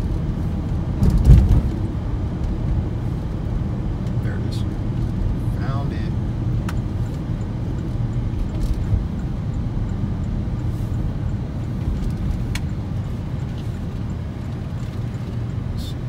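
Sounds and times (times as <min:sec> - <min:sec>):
car driving rumble from inside: 0:00.0 - 0:16.0.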